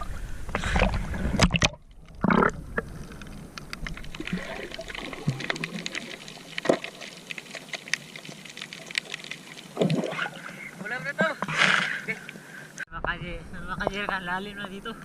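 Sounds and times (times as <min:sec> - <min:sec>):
water splashing and trickling: 0:00.0 - 0:12.7.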